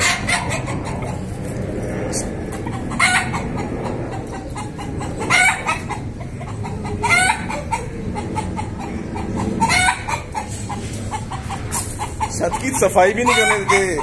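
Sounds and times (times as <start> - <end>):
rooster clucking: 0.0 - 14.0.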